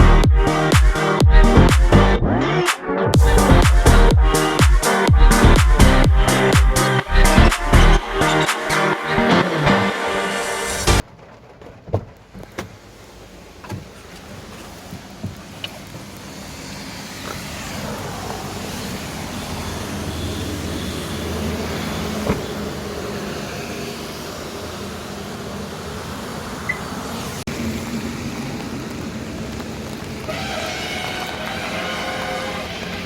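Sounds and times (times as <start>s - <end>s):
road vehicle rumble: 0.0s - 33.0s.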